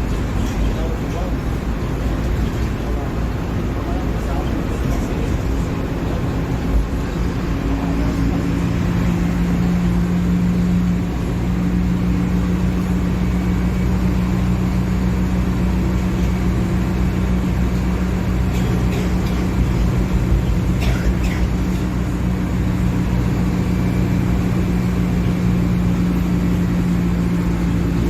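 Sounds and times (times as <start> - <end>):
bus diesel engine running: 0.0 - 28.0.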